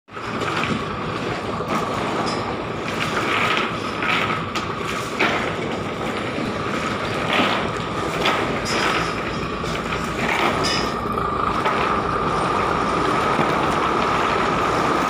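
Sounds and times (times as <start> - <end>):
boat machinery drone: 0.1 - 15.0.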